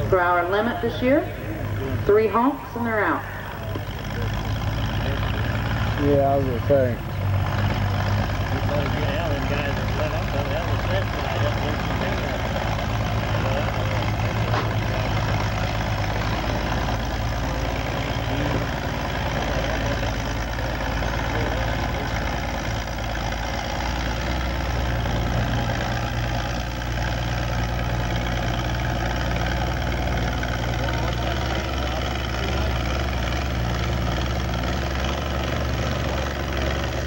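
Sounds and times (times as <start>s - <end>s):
tractor engine droning: 0.0s - 37.0s.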